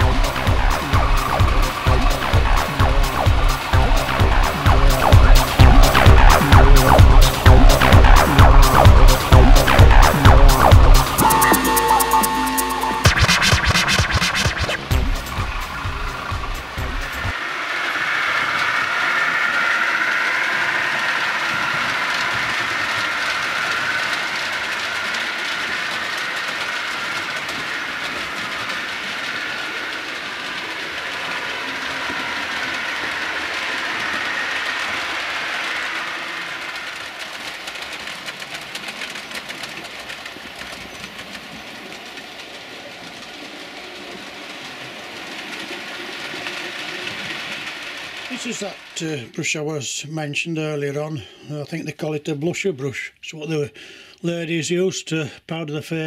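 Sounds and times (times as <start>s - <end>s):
model train rattling along track: 0.0s - 56.0s.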